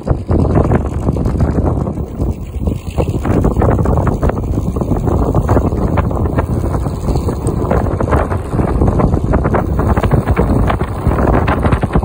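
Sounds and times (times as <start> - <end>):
rapid irregular clicks: 0.0 - 12.0
skateboard wheels and motor rumble: 0.0 - 12.0
wind buffeting microphone: 0.0 - 12.0.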